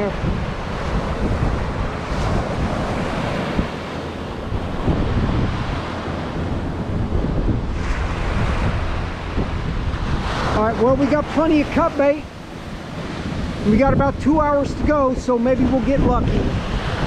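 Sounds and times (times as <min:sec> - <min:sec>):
surf breaking: 0:00.0 - 0:17.0
wind buffeting microphone: 0:00.0 - 0:17.0.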